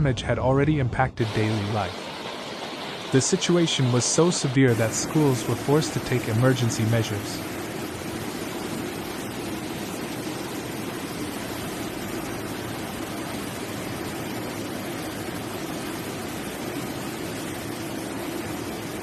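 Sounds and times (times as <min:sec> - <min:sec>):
floodwater rushing: 0:01.2 - 0:19.0.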